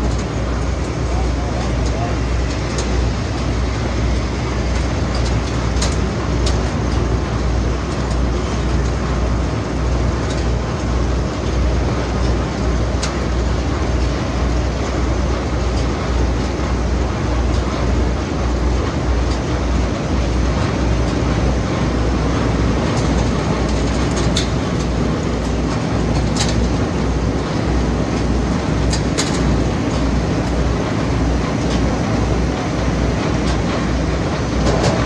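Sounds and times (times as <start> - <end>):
conveyor machinery humming and rattling: 0.0 - 35.0.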